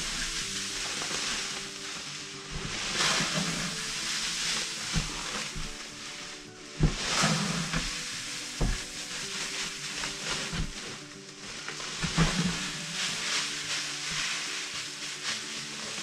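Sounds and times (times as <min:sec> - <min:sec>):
seed pouring into plastic bucket: 0:00.0 - 0:16.0.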